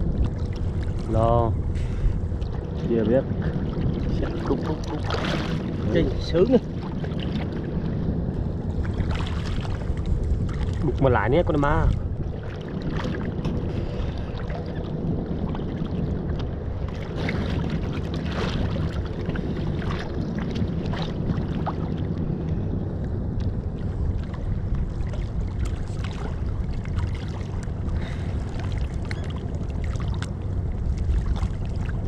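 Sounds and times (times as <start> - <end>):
hull splashing through waves: 0.0 - 22.7, 23.8 - 32.0
boat engine drone: 0.0 - 32.0.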